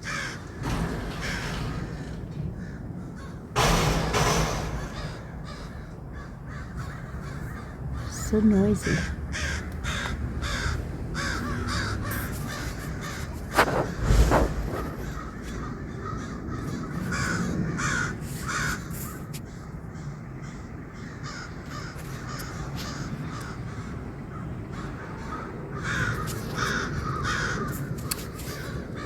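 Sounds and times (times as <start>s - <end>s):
crows cawing: 0.0s - 29.0s.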